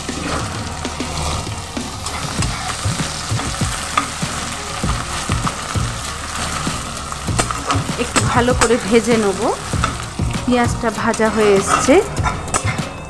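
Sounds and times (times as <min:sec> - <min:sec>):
onions sizzling in oil: 0:00.0 - 0:13.0
spatula scraping and knocking pan: 0:00.0 - 0:13.0.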